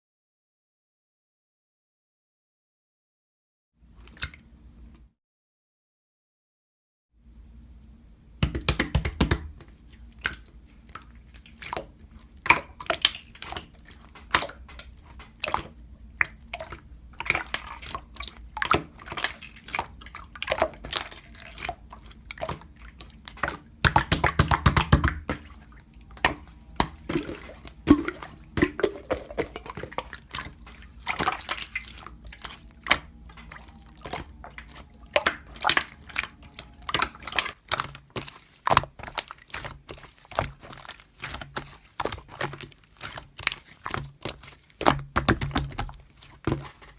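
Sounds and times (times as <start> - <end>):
slime squished by hand: 8.4 - 46.9.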